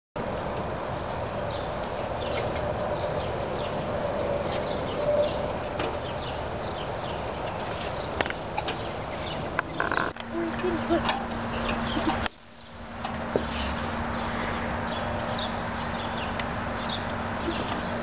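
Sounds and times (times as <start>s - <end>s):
small birds chirping: 1.4s - 18.0s.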